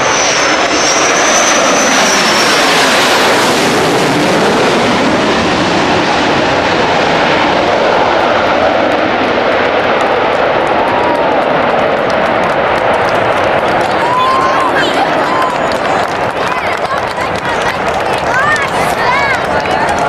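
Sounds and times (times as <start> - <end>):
high jet whine: 0.0 - 20.0.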